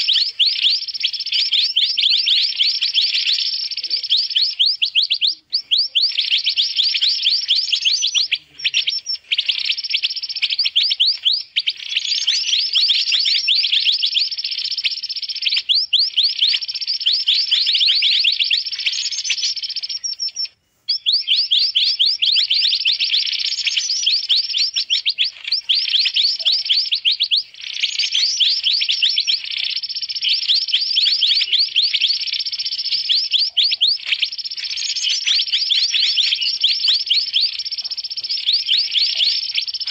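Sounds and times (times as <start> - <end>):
rapid high bird chirps: 0.0 - 39.9.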